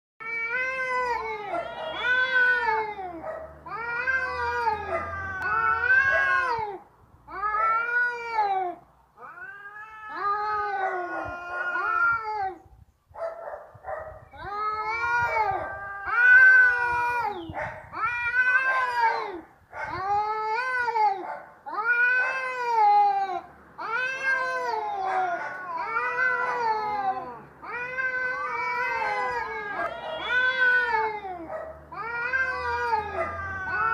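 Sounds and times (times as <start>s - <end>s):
cat yowling: 0.2s - 12.6s, 14.4s - 33.9s.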